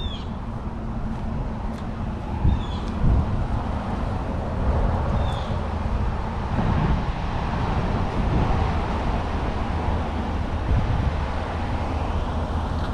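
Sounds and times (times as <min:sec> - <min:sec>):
low rumbling outdoor noise: 0:00.0 - 0:12.9.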